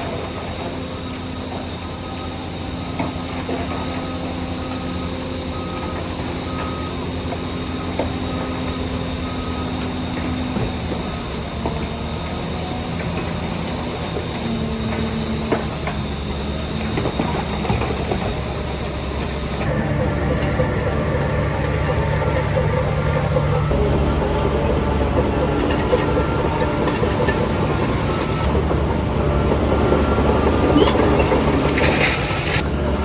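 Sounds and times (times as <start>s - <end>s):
heavy machinery diesel engines: 0.0s - 33.0s.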